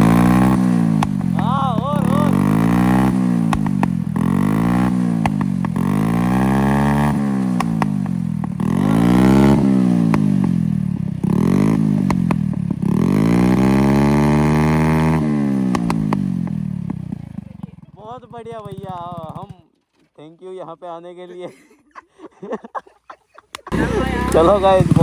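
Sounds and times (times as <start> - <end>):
motorcycle engine revving: 0.0 - 19.7, 23.7 - 25.0
exhaust pops and crackles: 0.0 - 20.3, 23.5 - 25.0.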